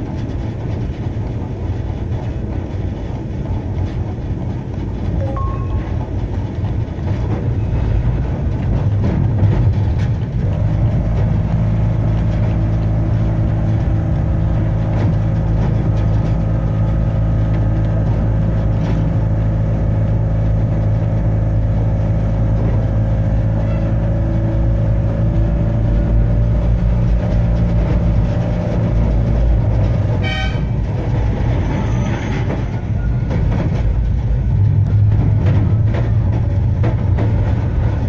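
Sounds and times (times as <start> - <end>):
tram motors humming: 0.0 - 38.0
wheels rolling on rails: 0.0 - 38.0.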